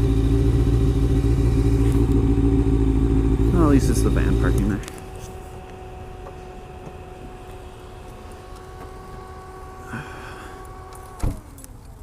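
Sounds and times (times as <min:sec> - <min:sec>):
steady two-tone hum: 0:00.0 - 0:11.5.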